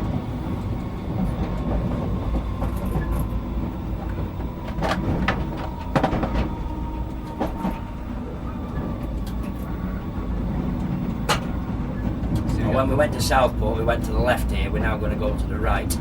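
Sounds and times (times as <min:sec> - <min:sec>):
train running rumble: 0:00.0 - 0:16.0
wheels clicking over rail joints: 0:00.5 - 0:16.0.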